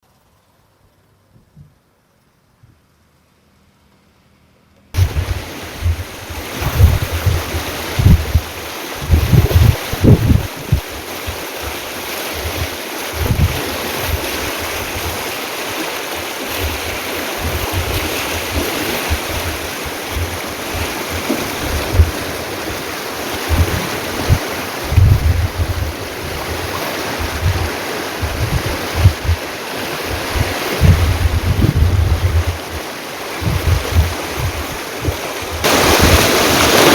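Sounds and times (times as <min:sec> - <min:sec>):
wind buffeting microphone: 0:05.0 - 0:15.4, 0:16.2 - 0:36.9
flowing water rushing: 0:05.0 - 0:36.9.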